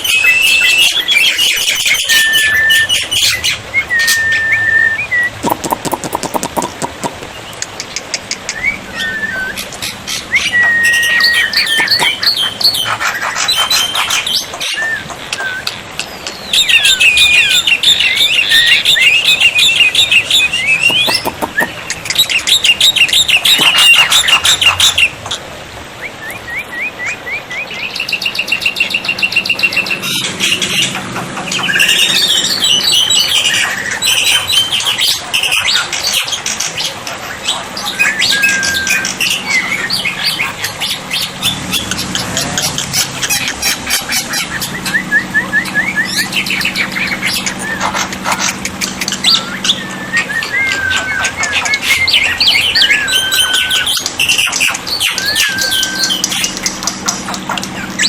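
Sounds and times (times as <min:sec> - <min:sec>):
bird singing whistled trills: 0:00.0 - 0:06.4, 0:08.5 - 0:25.2, 0:26.0 - 0:36.3, 0:37.8 - 0:42.0, 0:44.0 - 0:48.0, 0:49.1 - 0:56.8.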